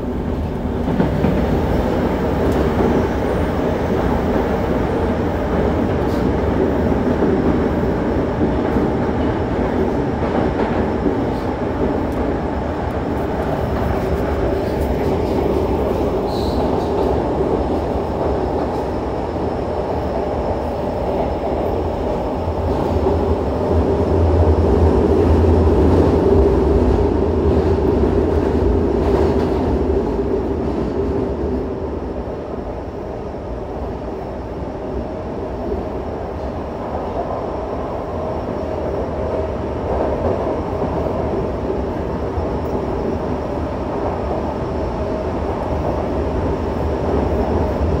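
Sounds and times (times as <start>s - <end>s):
subway car wheel and motor noise: 0.0s - 48.0s.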